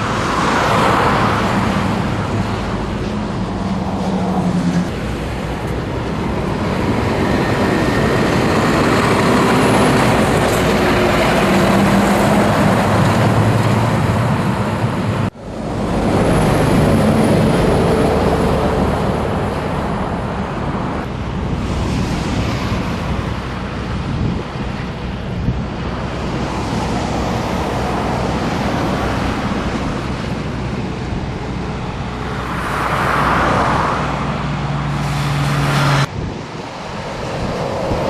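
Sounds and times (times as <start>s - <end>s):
road noise: 0.0s - 38.0s
truck engine drone: 0.0s - 38.0s.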